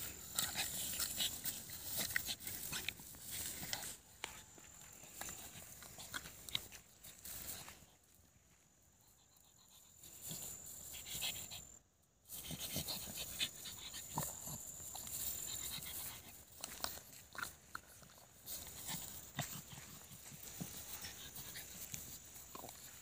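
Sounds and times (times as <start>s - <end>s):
dog sniffing and breathing: 0.0s - 8.0s, 9.1s - 23.0s
rustling of dry grass: 0.0s - 11.5s, 12.3s - 23.0s.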